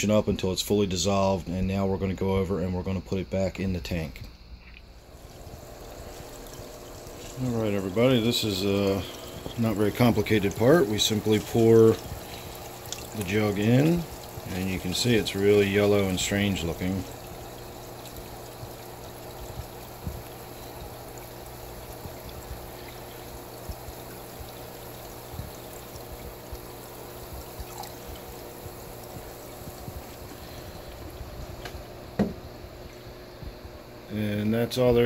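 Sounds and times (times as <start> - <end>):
liquid pouring into water: 4.9 - 33.6
airstone bubbling: 4.9 - 34.1.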